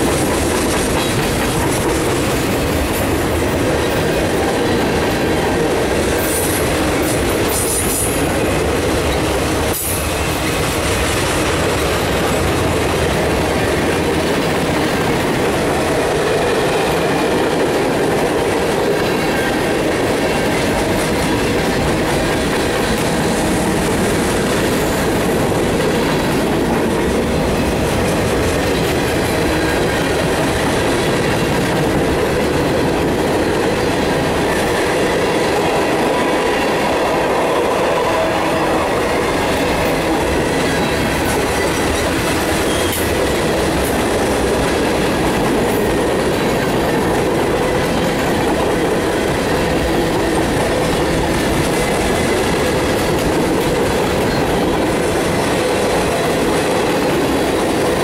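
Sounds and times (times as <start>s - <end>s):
steel wheels running on rails: 0.0s - 58.0s.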